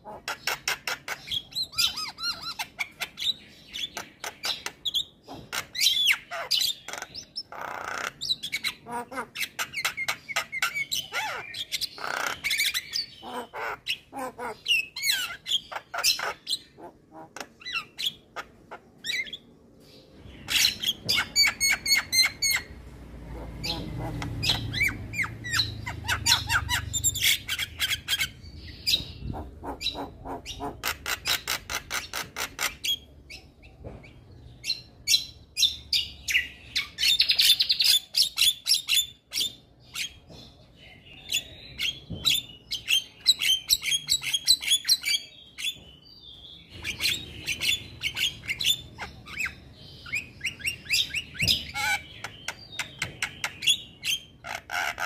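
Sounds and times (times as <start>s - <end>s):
myna bird singing: 0.0s - 55.0s.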